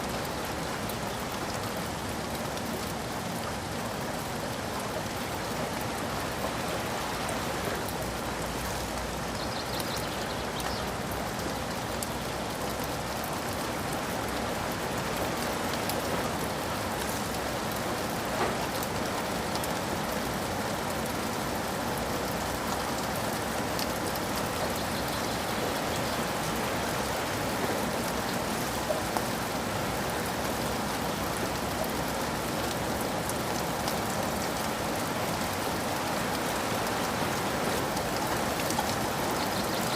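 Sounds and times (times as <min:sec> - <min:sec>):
sharp raindrops: 0:00.0 - 0:39.9
steady rain falling: 0:00.0 - 0:39.9.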